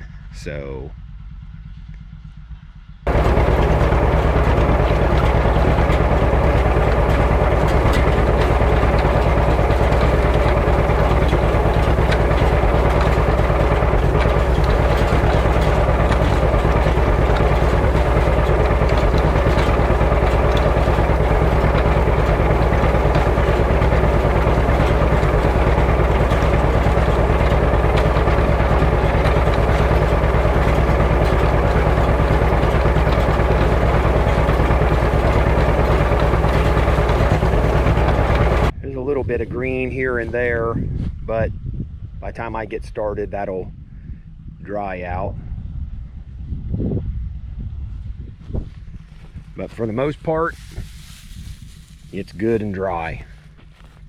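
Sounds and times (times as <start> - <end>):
tractor engine running: 0.0 - 38.8, 48.4 - 54.0.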